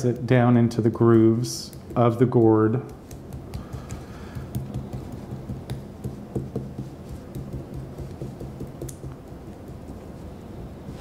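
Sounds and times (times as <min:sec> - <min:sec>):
fingers tapping leaf into grooves: 0:00.0 - 0:10.1
steady low hum: 0:00.0 - 0:11.0.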